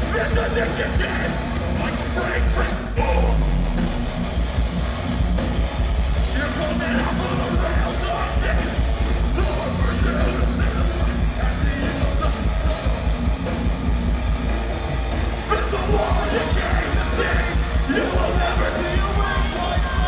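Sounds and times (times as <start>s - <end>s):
metalcore band playing live: 0.0s - 20.0s.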